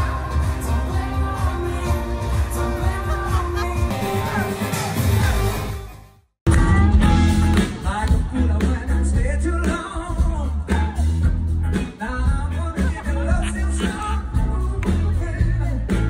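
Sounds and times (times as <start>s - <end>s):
rock music with singing: 0.0s - 16.0s.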